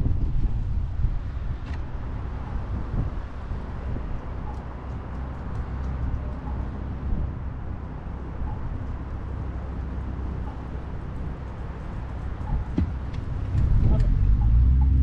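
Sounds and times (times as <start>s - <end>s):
distant road traffic: 0.0s - 15.0s
wind rumble on microphone: 0.0s - 15.0s.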